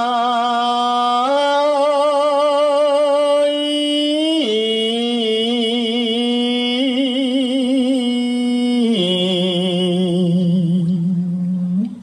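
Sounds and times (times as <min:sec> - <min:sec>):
man chanting unaccompanied: 0:00.0 - 0:12.0.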